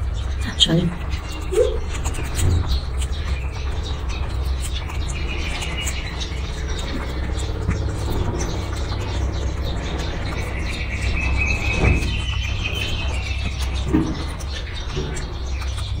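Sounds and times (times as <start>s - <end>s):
bird chirping trill: 0.0s - 16.0s
steady low rumble: 0.0s - 16.0s.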